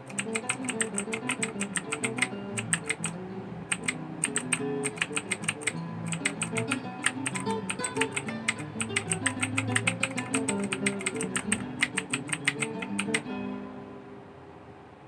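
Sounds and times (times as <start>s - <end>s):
clicky mechanical keyboard typing: 0.0s - 13.2s.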